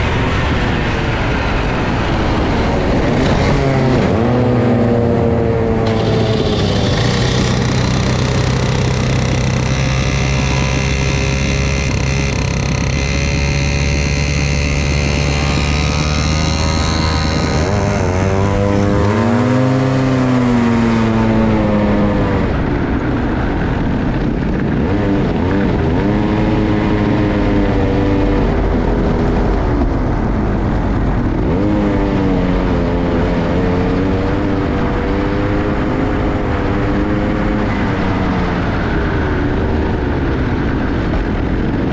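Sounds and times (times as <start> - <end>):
kart engine revving: 0.0 - 41.9.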